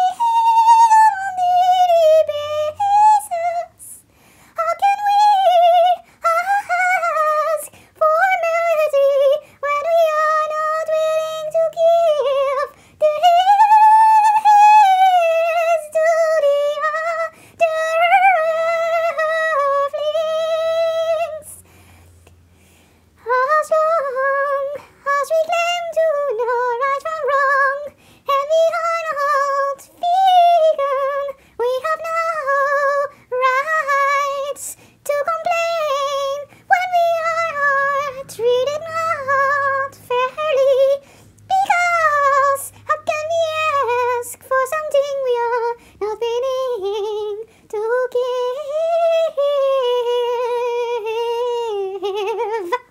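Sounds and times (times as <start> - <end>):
woman singing alone: 0.0 - 21.6, 23.2 - 52.9.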